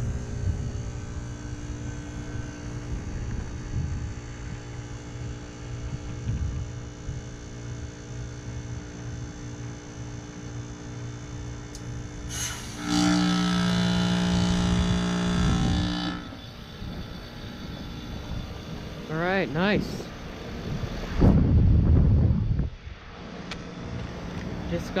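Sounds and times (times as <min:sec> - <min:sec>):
heat pump running: 0:00.0 - 0:25.0
loud refrigerant hiss with hum: 0:00.0 - 0:25.0.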